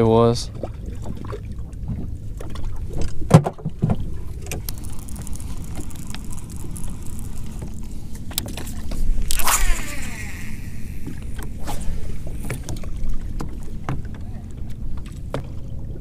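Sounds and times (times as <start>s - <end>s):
rippling water: 0.0s - 16.0s.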